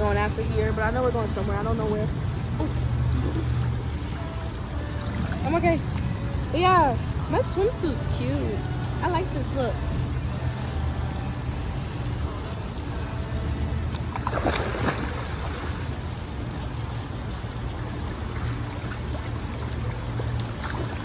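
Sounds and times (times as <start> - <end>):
pool water splashing: 0.0 - 21.0.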